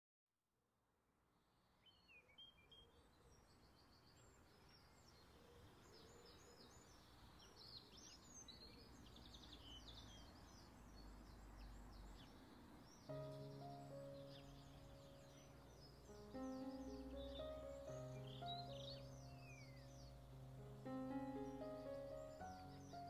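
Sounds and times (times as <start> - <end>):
birds chirping: 2.3 - 23.0.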